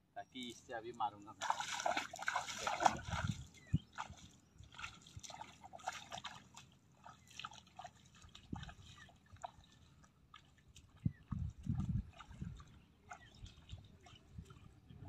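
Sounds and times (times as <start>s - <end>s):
splashing steps in shallow water: 1.3s - 15.0s.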